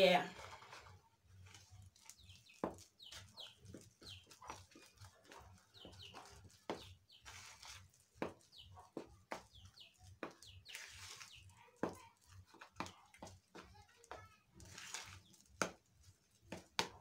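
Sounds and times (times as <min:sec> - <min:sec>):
hands kneading wet batter: 0:00.0 - 0:17.0.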